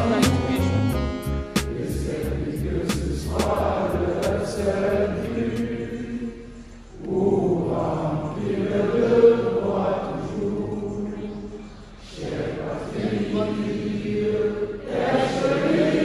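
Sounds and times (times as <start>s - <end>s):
group singing in unison: 1.6s - 16.0s.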